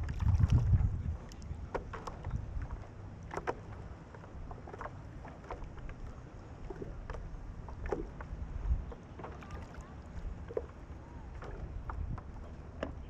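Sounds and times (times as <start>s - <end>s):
water lapping and dripping: 0.0s - 13.0s.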